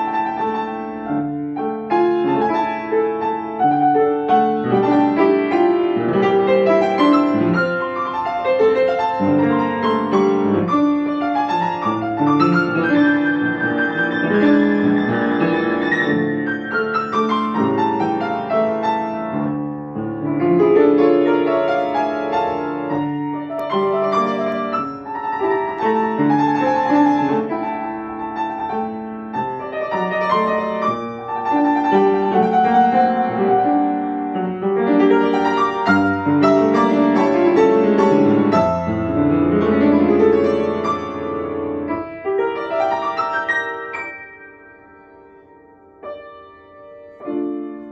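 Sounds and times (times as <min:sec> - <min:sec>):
solo grand piano classical piece: 0:00.0 - 0:47.9.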